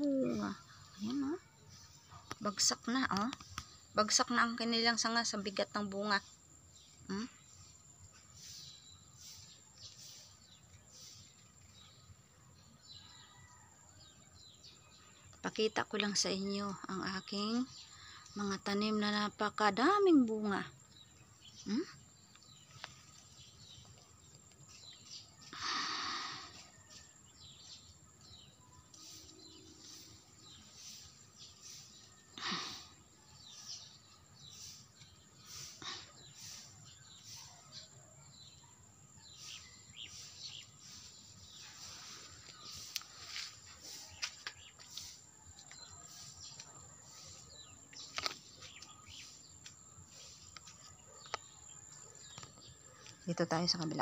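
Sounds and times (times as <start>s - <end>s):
faint outdoor background noise: 0.0s - 54.0s
small birds chirping: 0.0s - 54.0s.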